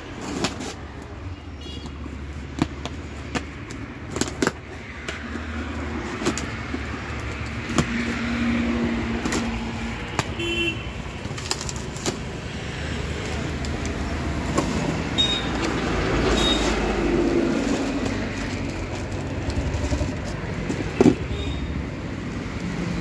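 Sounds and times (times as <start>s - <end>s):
tape and cardboard crackling: 0.0s - 23.0s.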